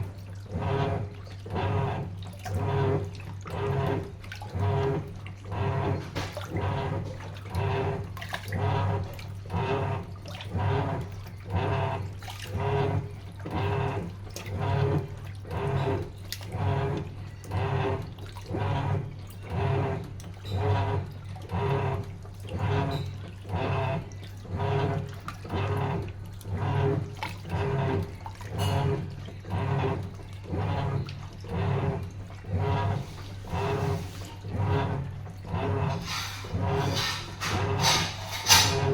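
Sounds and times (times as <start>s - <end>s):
low motor hum: 0.0s - 38.9s
water sloshing in washing machine: 0.0s - 38.9s.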